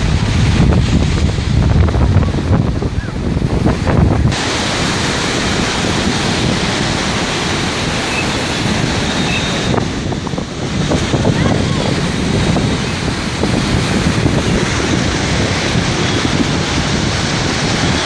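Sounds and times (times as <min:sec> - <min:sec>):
sea surf breaking: 0:00.0 - 0:18.0
wind buffeting microphone: 0:00.0 - 0:18.0.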